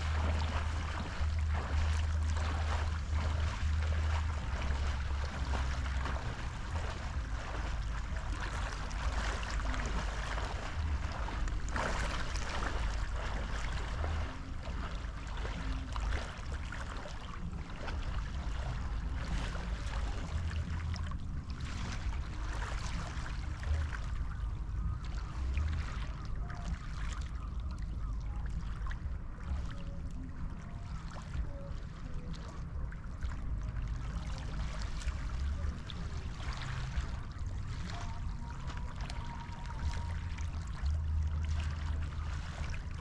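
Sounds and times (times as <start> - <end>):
small waves lapping: 0.0 - 43.0.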